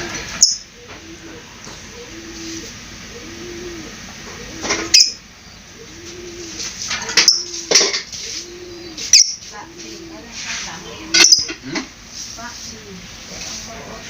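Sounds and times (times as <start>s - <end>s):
low cooing call: 0.0s - 11.9s.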